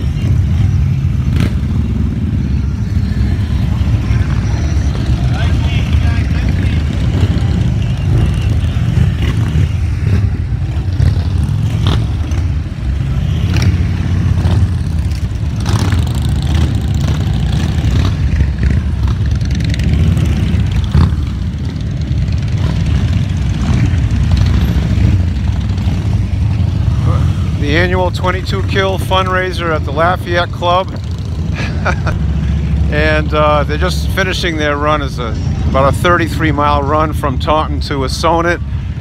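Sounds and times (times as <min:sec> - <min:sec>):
motorcycles riding past: 0:00.0 - 0:39.0.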